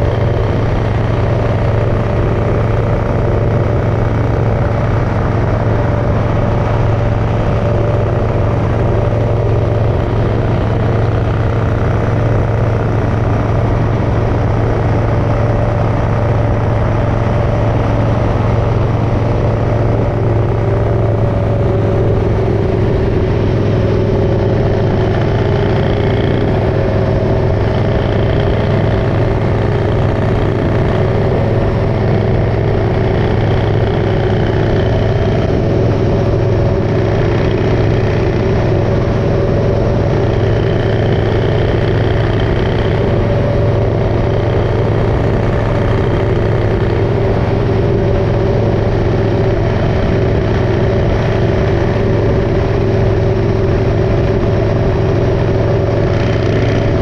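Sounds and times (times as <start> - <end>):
motorcycle engine cruising: 0.0 - 57.0
road noise: 0.0 - 57.0.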